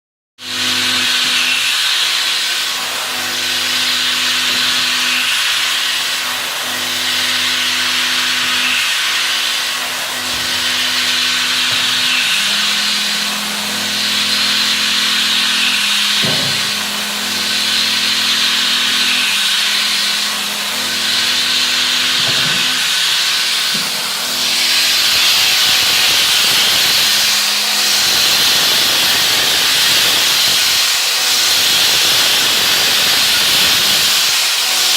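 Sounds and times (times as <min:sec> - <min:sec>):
milling machine cutting hiss: 0:00.6 - 0:34.9
motor hum: 0:02.8 - 0:34.9.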